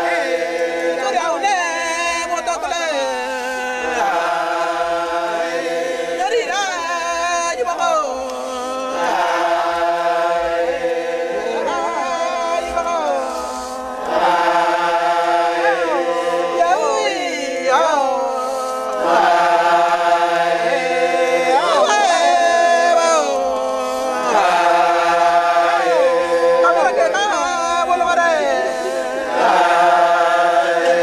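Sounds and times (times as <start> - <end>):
men chanting: 0.0 - 31.0.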